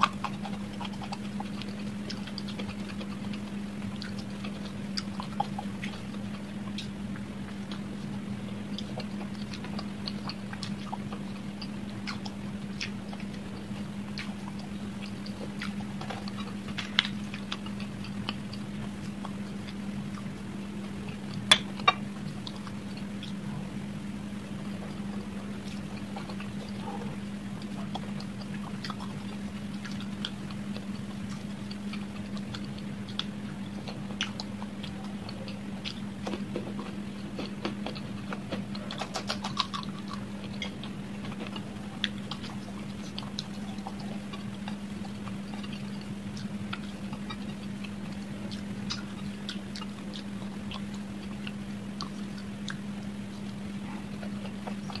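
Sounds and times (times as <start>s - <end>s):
wet mouth clicks and lip smacks: 0.0s - 20.3s, 21.1s - 23.4s, 24.6s - 55.0s
person chewing food: 0.0s - 55.0s
steady low hum: 0.0s - 55.0s.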